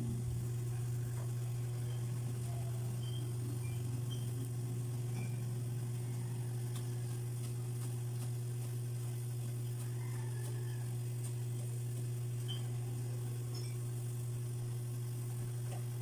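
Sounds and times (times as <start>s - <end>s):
broth simmering with pops: 0.0s - 16.0s
gas burner hum: 0.0s - 16.0s.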